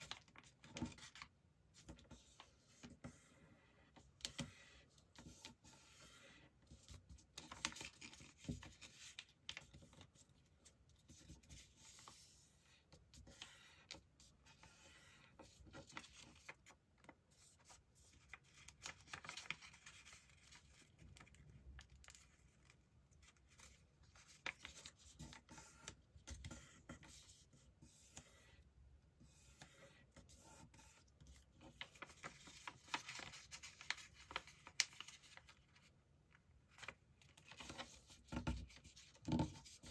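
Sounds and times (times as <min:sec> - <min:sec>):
paper rustling as folded: 0:00.0 - 0:03.1, 0:04.2 - 0:27.6, 0:29.5 - 0:39.9.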